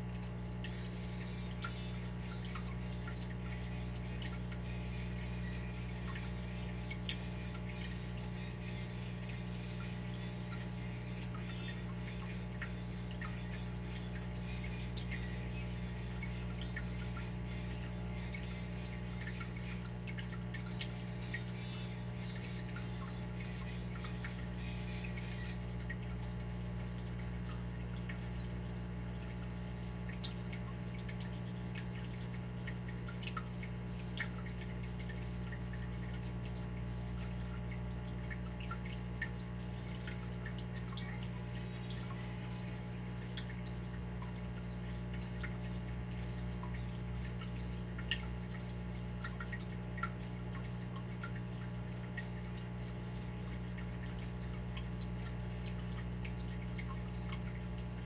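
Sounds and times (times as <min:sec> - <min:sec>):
steady low hum: 0:00.0 - 0:58.0
water dripping: 0:00.0 - 0:58.0.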